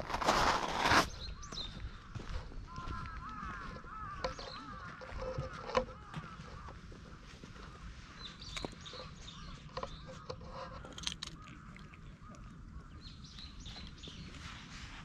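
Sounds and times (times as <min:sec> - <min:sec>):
birds calling: 0:00.2 - 0:14.8.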